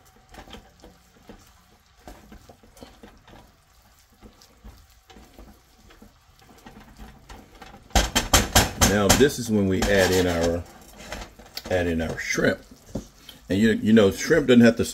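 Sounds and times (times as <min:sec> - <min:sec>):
faint sizzle: 0:00.0 - 0:14.9
spatula scraping a pan: 0:00.0 - 0:14.9.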